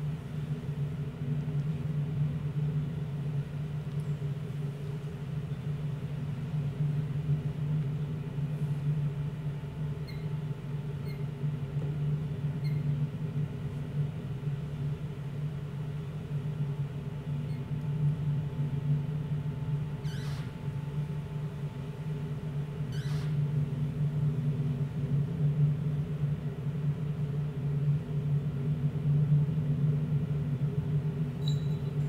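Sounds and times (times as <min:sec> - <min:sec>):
low droning hum: 0:00.0 - 0:32.0.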